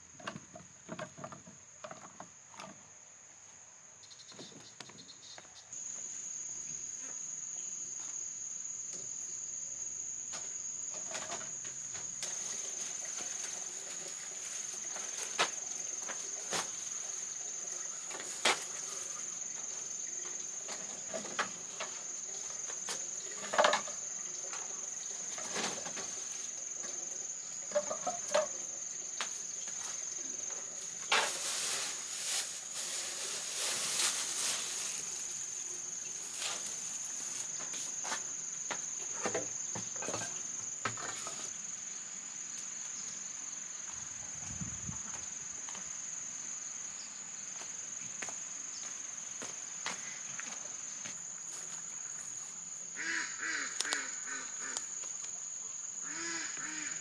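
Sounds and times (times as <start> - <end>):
insect drone: 0.0 - 57.0.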